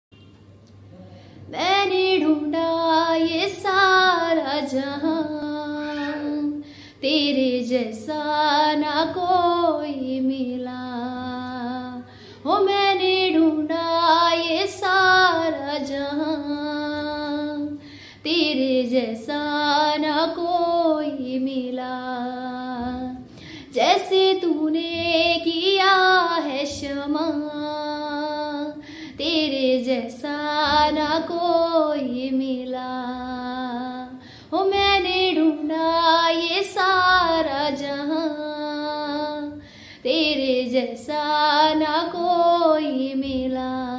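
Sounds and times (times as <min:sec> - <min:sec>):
woman singing unaccompanied: 0:01.5 - 0:43.9.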